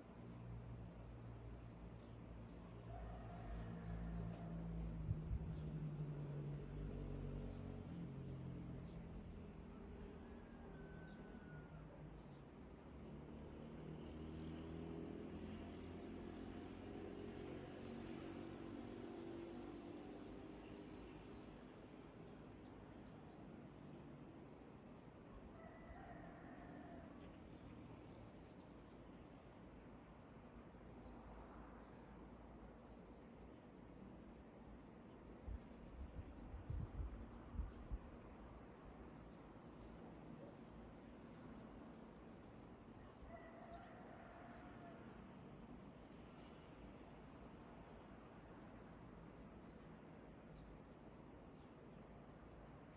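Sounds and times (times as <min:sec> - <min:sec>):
high-pitched cricket trill: 0:00.0 - 0:52.9.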